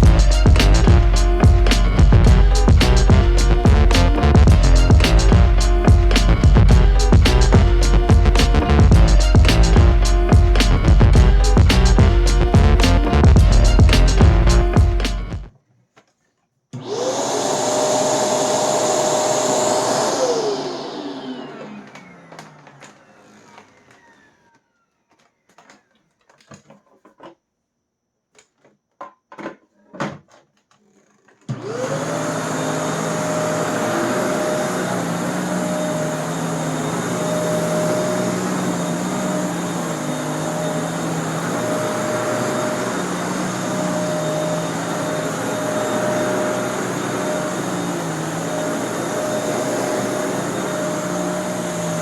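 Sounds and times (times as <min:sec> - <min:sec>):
vacuum cleaner motor running: 0:00.0 - 0:15.5, 0:16.8 - 0:24.6, 0:31.5 - 0:52.0.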